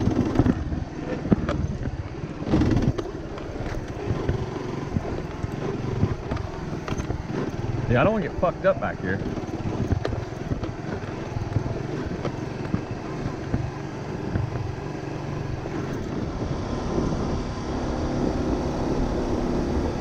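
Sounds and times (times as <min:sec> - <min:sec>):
knocks and rattles: 0:00.0 - 0:16.5
motorcycle engine running: 0:00.0 - 0:20.0.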